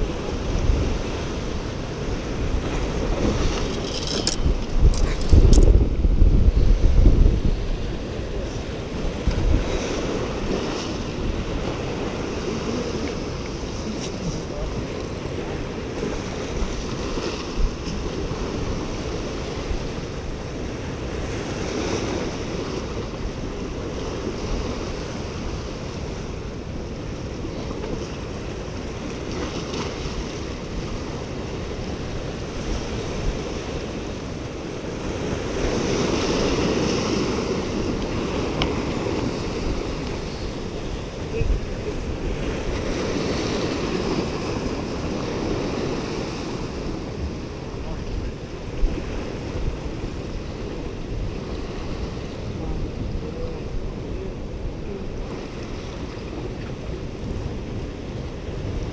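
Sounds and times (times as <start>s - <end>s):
ocean surf breaking on rocks: 0.0s - 58.9s
wind buffeting microphone: 0.0s - 58.9s.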